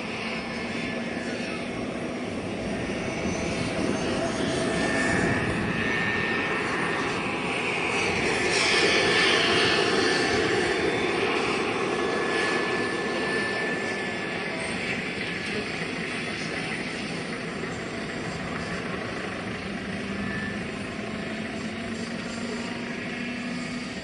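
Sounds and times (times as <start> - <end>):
model helicopter turbine whine: 0.0 - 24.0.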